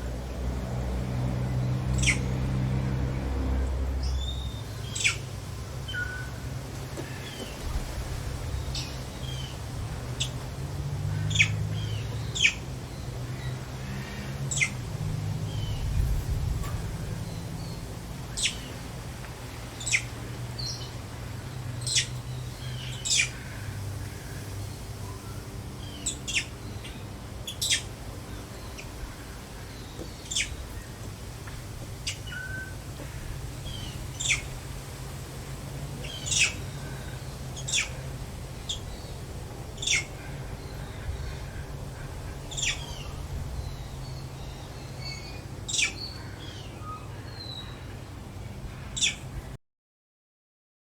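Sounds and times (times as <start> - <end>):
small birds chirping: 0.0 - 3.2, 3.8 - 49.4.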